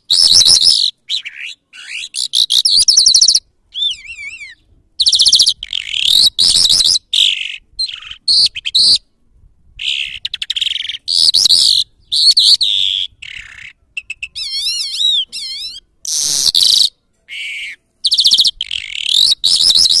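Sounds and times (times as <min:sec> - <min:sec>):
lark singing: 0:00.0 - 0:09.0, 0:09.8 - 0:20.0.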